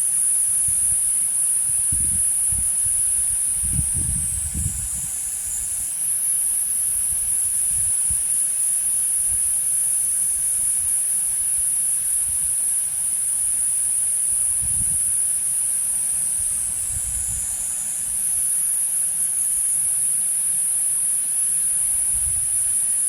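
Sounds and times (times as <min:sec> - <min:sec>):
cicadas singing: 0:00.0 - 0:23.0.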